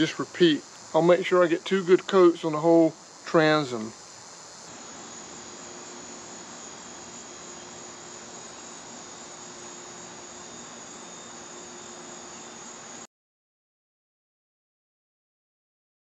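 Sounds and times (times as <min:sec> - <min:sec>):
high-pitched insect chorus: 0:00.0 - 0:13.1.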